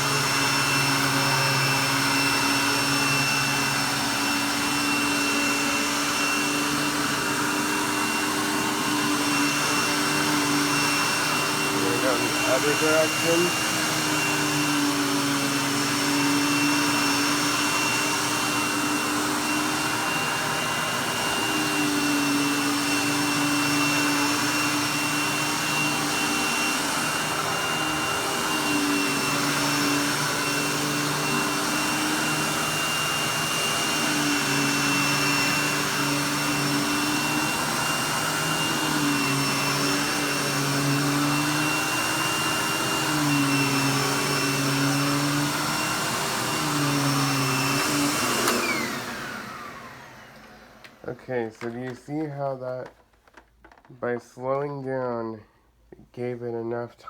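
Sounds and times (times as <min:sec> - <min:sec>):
vacuum cleaner running on carpet: 0:00.0 - 0:54.2.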